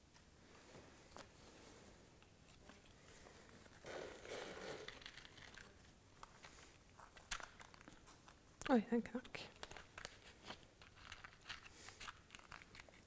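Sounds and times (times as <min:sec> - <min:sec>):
rustling handling noise: 0:00.1 - 0:13.0.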